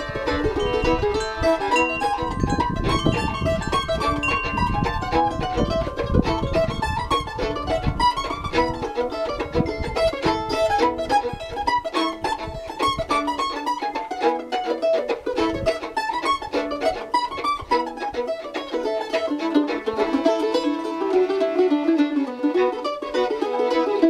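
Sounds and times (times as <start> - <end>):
fiddle playing: 0.0 - 24.0
mandolin picking: 0.0 - 24.0.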